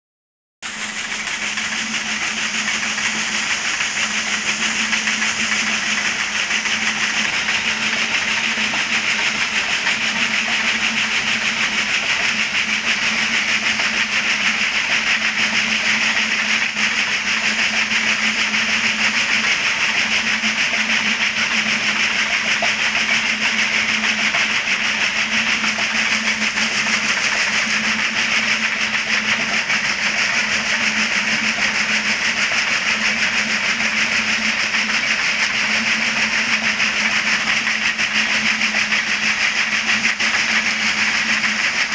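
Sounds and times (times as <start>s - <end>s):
water gushing and splashing: 0.6s - 41.9s.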